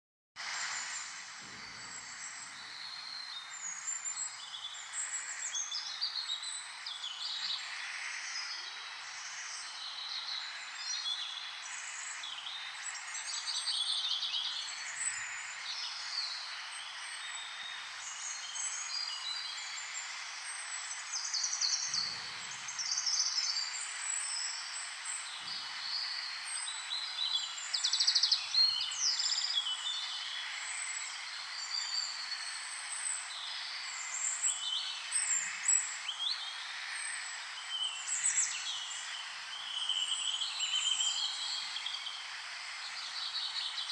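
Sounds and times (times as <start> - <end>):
small birds chirping: 0.4 - 43.9
steady background hiss: 0.4 - 43.9.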